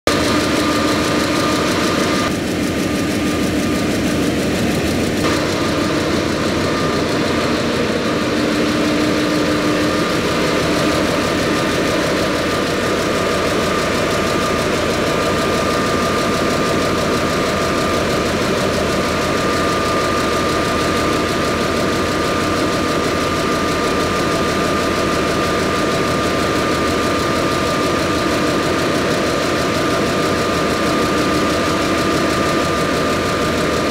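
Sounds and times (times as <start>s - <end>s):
high-pitched whine: 0.1s - 33.9s
large engine rumbling: 0.1s - 33.9s.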